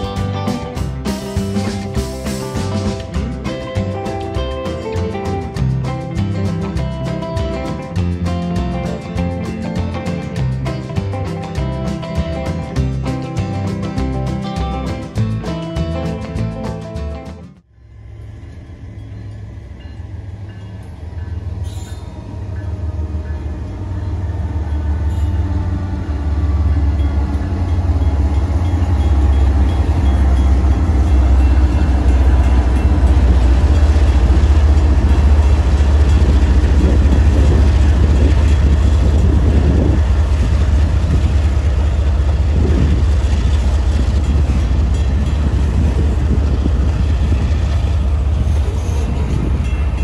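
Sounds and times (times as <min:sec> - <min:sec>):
freight train passing: 0:00.0 - 0:50.0.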